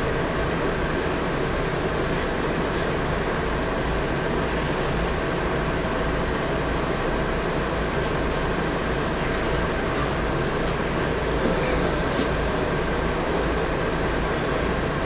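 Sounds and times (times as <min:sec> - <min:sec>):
diesel bus engine running: 0:00.0 - 0:15.0.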